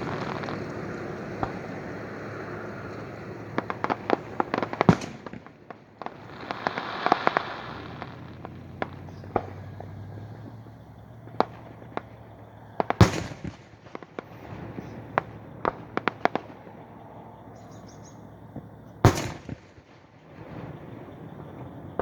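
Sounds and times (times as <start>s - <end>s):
fireworks booming: 0.0s - 22.0s
small firework cracks: 0.0s - 22.0s.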